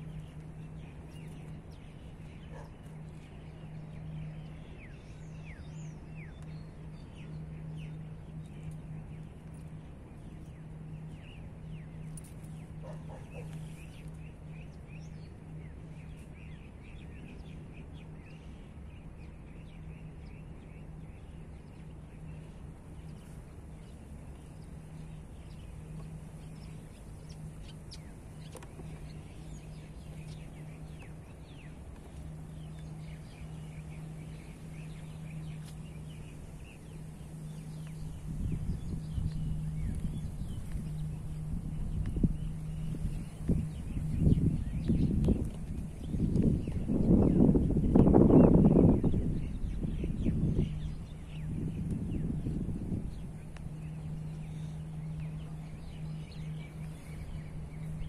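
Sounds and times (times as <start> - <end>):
low background rumble: 0.0 - 58.0
small birds chirping: 0.0 - 58.0
steady low hum: 0.0 - 58.0.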